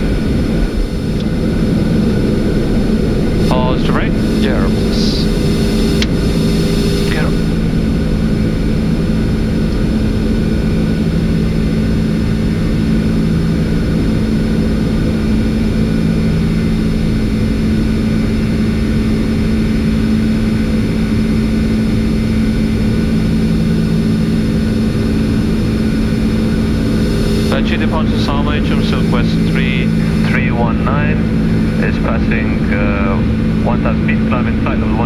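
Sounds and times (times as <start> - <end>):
jet engine and airflow noise: 0.0 - 35.0
steady low hum: 0.0 - 35.0.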